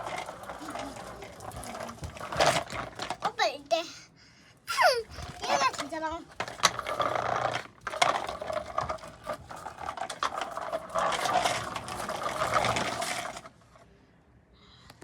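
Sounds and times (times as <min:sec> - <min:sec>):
toy tractor whirring and clattering: 0:00.0 - 0:03.9, 0:04.9 - 0:13.8.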